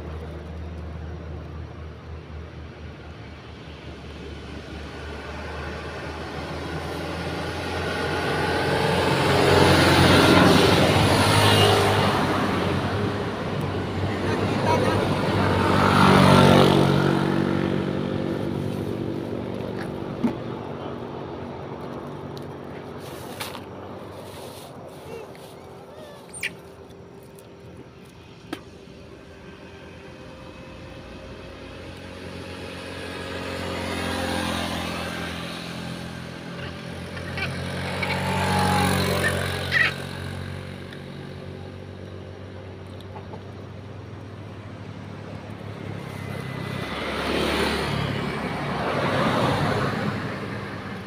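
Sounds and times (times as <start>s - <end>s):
vehicles passing on road: 0.0s - 51.0s.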